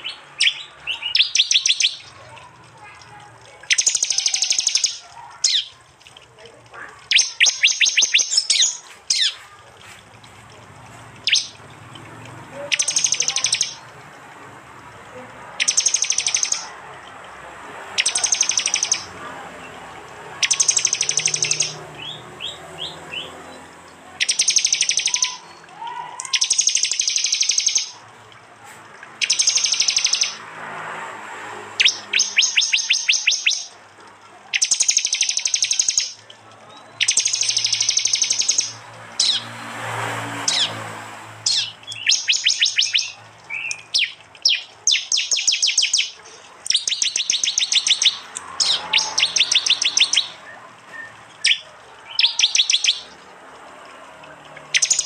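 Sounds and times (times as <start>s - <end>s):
birds chattering calls: 0.0s - 9.4s, 10.2s - 28.0s, 29.0s - 30.6s, 31.7s - 53.5s, 54.3s - 55.0s.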